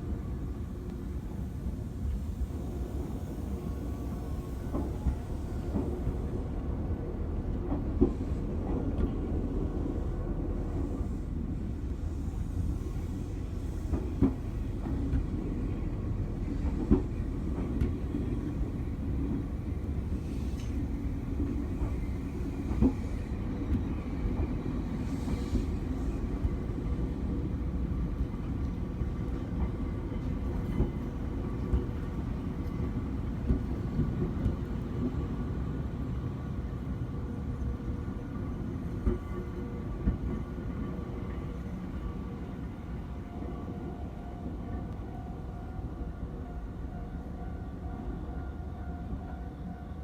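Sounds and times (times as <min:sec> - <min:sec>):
train rumbling along track: 0:00.0 - 0:50.0.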